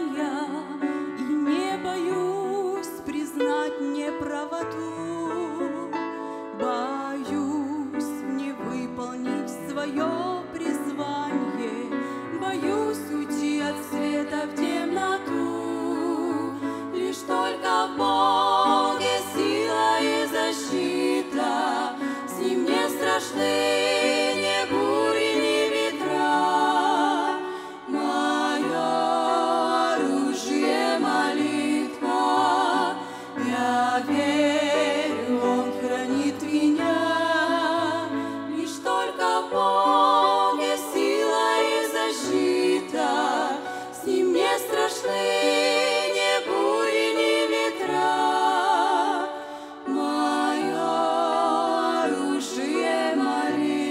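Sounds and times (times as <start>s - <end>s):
piano: 0.0s - 53.9s
women singing in harmony: 0.0s - 53.9s.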